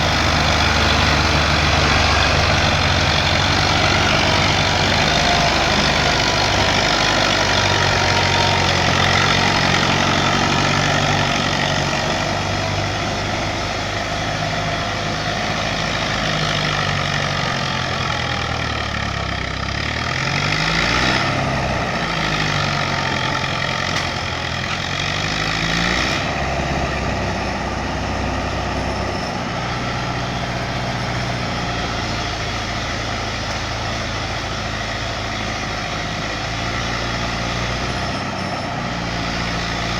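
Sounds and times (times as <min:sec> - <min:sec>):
tractor engine revving: 0:00.0 - 0:39.9.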